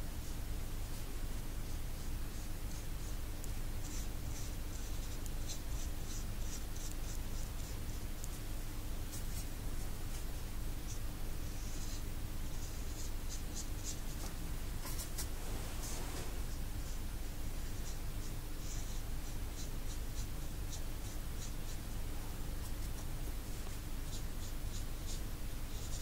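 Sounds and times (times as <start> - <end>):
steady low hum: 0.0 - 26.0
paintbrush strokes on paper: 0.2 - 26.0.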